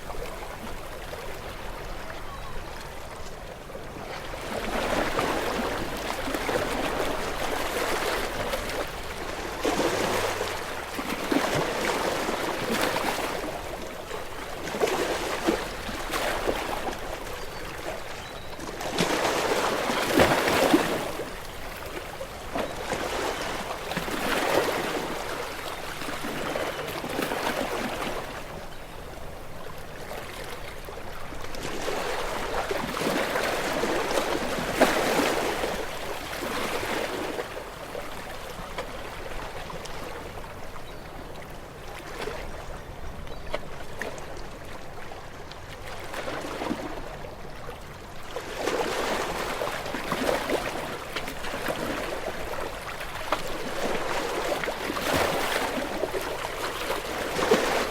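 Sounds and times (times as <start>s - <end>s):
small waves washing onto shore: 0.0s - 57.9s.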